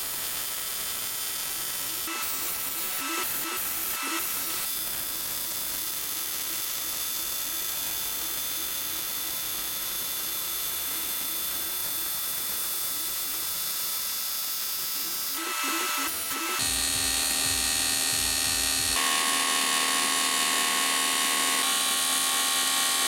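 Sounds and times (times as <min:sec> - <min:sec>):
welding arc hissing: 0:00.0 - 0:23.0.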